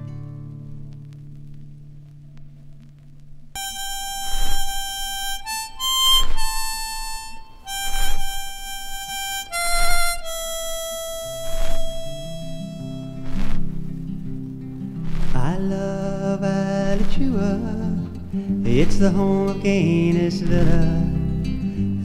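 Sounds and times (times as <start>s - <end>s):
low guitar notes: 0.0s - 22.0s
harmonica slow melody: 3.6s - 22.0s.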